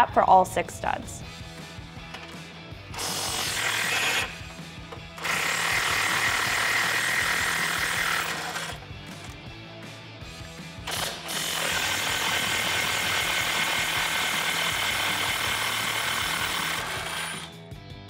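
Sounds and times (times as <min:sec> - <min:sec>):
background music: 0:00.0 - 0:18.0
impact wrench spinning nuts: 0:02.1 - 0:09.5, 0:10.4 - 0:17.6.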